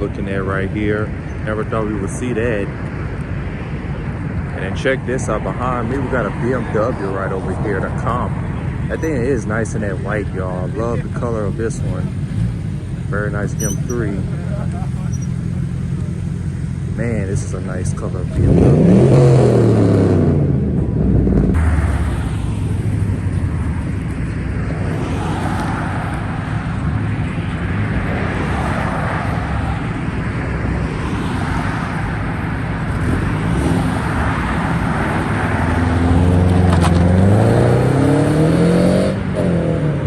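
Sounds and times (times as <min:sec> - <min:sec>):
car engine revving: 0:00.0 - 0:40.0
rumble of other engines: 0:00.0 - 0:40.0.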